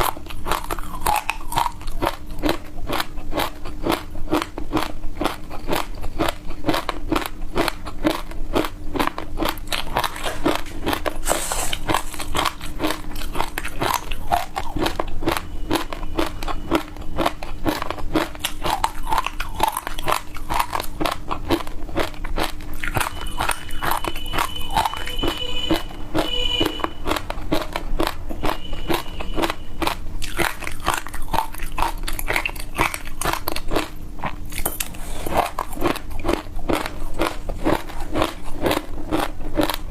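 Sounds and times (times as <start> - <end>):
crunching and chewing seeds: 0.0 - 39.9.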